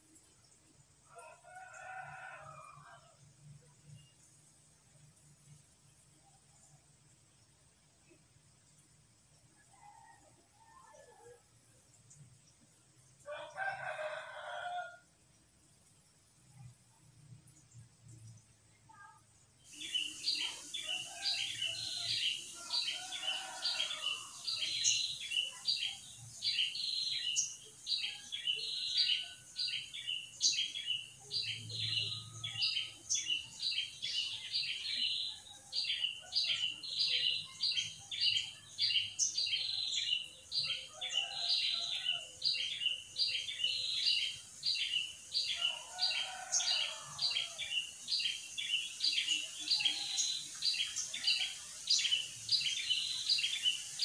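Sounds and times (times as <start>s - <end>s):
constant high hiss: 0.0s - 54.0s.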